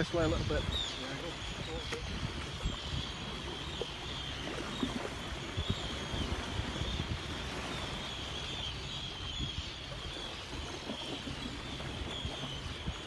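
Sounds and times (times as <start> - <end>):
seabirds calling: 0.0 - 13.0
wind and water noise: 0.0 - 13.0.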